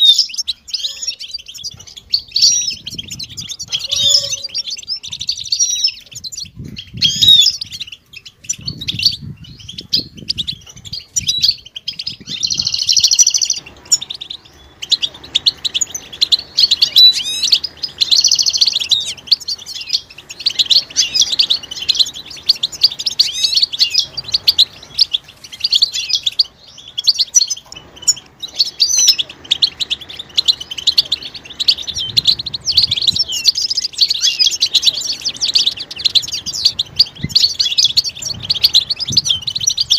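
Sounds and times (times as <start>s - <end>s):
goldfinches twittering: 0.0s - 39.9s.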